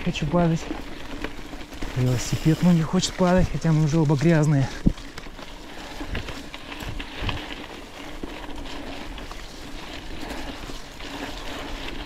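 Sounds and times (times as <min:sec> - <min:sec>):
bike tyres rolling: 0:00.0 - 0:12.0.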